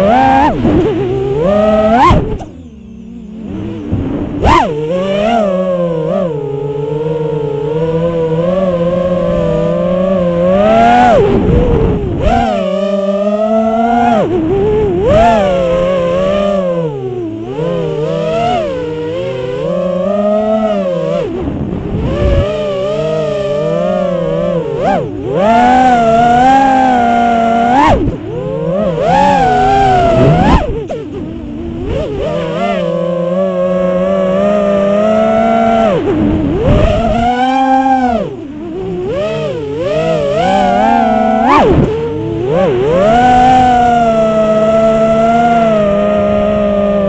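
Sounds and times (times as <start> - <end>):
drone motors whining: 0.0 - 47.0.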